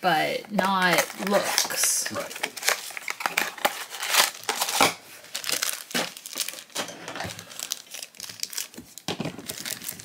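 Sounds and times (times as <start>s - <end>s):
foil wrappers crinkling: 0.6s - 10.0s.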